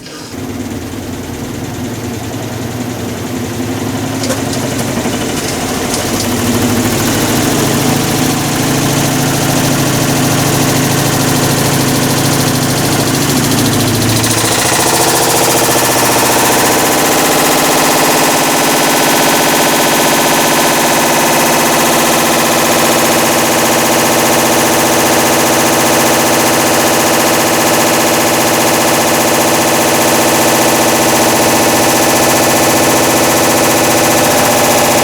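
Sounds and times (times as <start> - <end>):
washing machine roaring: 0.0 - 35.0.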